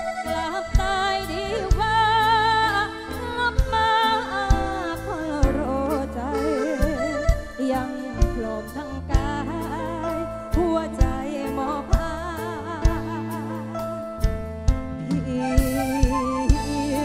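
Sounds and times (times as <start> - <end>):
woman singing with vibrato: 0.0 - 13.8, 15.0 - 17.0
live band with kick drum: 0.0 - 17.0.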